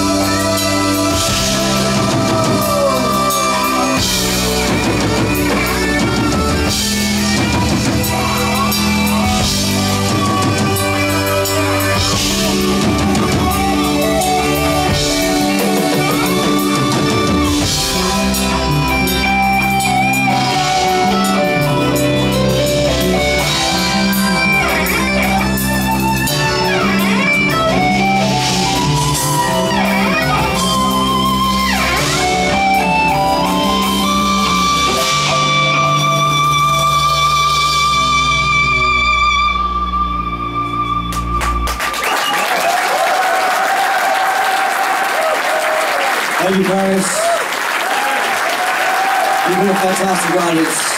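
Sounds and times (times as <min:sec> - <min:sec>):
electric guitar bending notes: 0:00.0 - 0:42.1
live rock band playing: 0:00.0 - 0:50.9.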